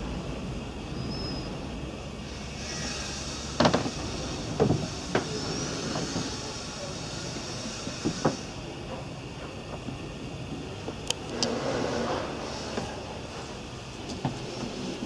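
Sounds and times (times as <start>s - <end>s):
steady low rumble: 0.0s - 7.8s, 8.5s - 15.0s.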